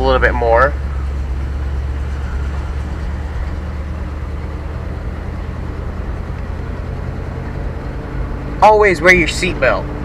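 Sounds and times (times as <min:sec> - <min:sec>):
pickup engine droning while cruising: 0:00.0 - 0:10.0.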